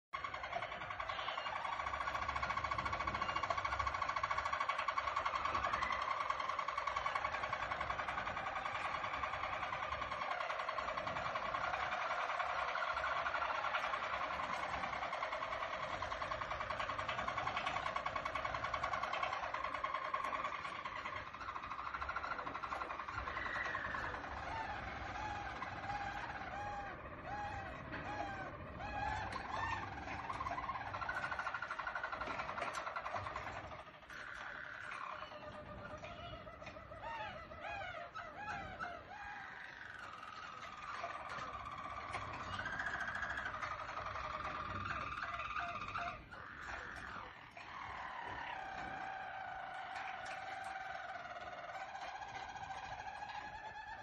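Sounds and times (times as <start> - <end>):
canaries singing fast trills: 0.2 - 54.0.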